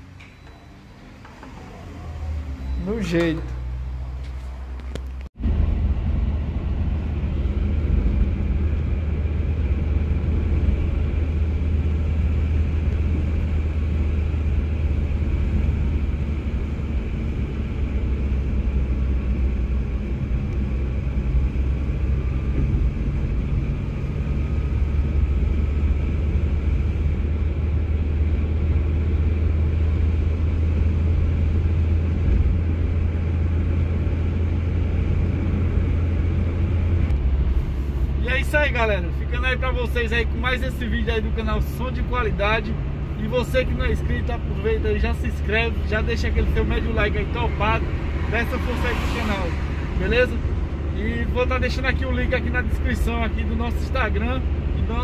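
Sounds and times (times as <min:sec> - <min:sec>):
steady low rumble: 0:03.5 - 0:55.0.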